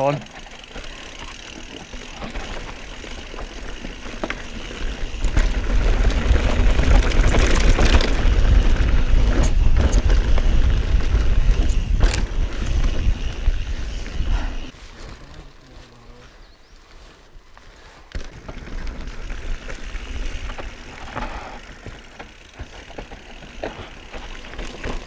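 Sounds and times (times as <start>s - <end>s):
bike tyres on dirt: 0.0s - 25.0s
bike knocking over trail: 0.1s - 14.2s, 18.1s - 25.0s.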